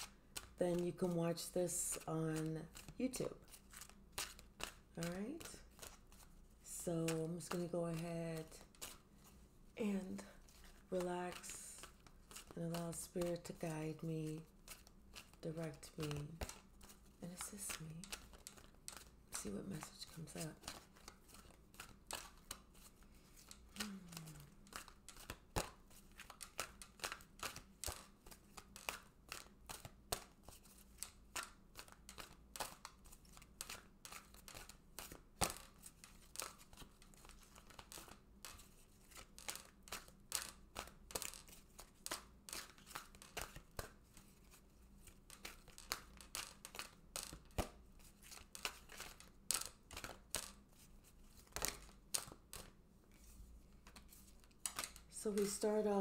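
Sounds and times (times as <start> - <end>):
cards being shuffled: 0.0 - 56.0.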